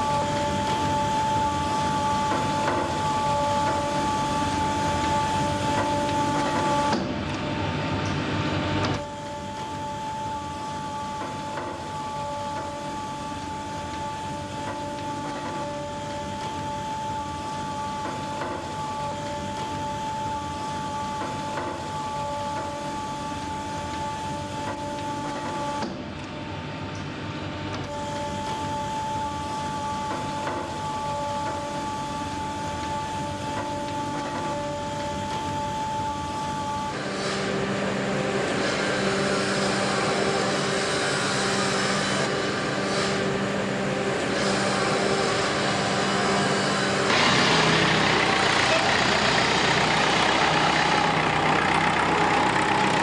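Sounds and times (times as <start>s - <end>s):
factory machinery humming and whining: 0.0s - 53.0s
rough machine with deep hum: 0.0s - 53.0s.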